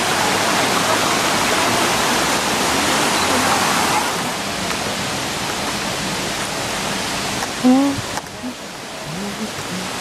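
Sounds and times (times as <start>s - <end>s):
rushing waterfall: 0.0s - 10.0s.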